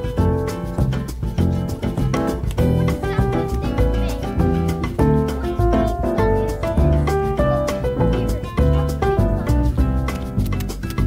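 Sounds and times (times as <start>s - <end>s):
instrumental music over beat: 0.0s - 11.0s.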